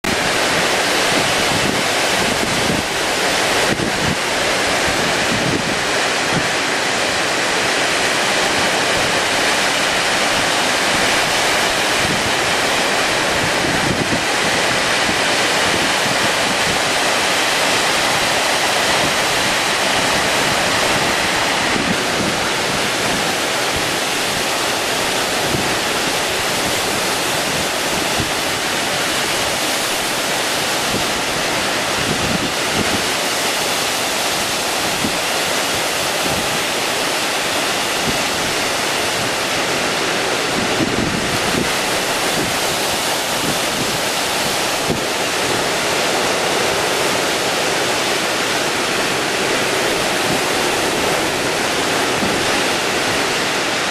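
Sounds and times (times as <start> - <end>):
heavy surf breaking: 0.0 - 53.9
storm-force wind: 0.0 - 53.9.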